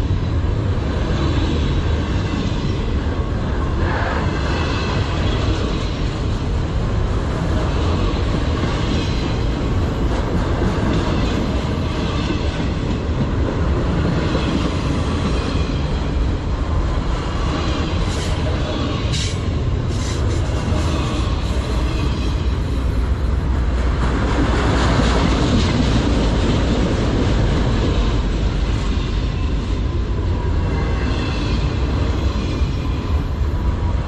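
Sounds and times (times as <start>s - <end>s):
steel wheels rumbling on rails: 0.0s - 34.0s.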